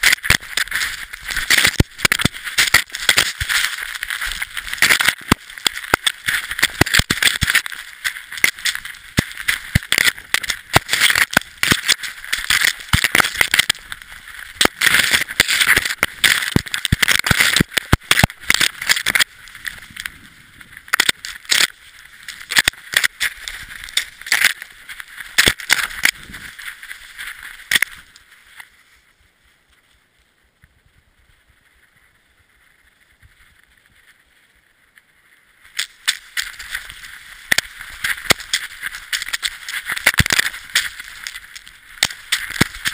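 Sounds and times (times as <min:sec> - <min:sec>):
snow hissing and scraping: 0:00.0 - 0:17.0, 0:18.7 - 0:35.3, 0:35.9 - 0:42.9.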